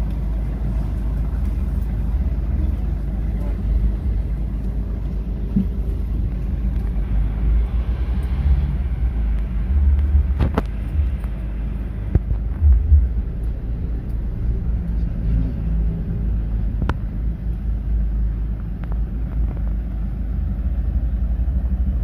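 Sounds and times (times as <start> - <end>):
minibus engine and road rumble: 0.0 - 22.0.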